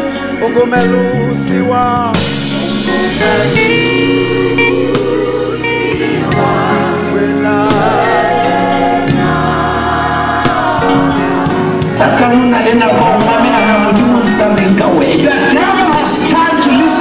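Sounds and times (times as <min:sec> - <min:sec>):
sustained accompaniment: 0:02.0 - 0:16.9
group of singers singing: 0:02.1 - 0:17.0.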